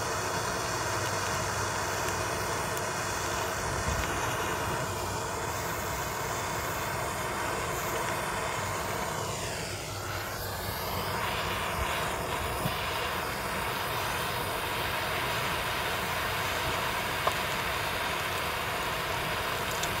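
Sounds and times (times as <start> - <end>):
blowtorch flame hissing: 0.0 - 20.0.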